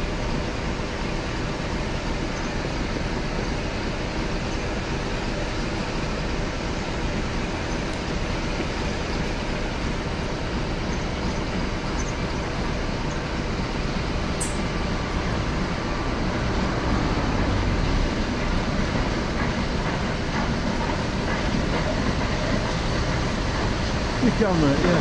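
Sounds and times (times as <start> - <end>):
steam locomotives working: 0.0 - 25.0.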